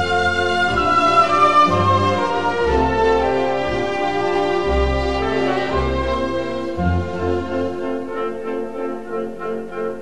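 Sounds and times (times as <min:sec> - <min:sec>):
slow orchestral music: 0:00.0 - 0:10.0.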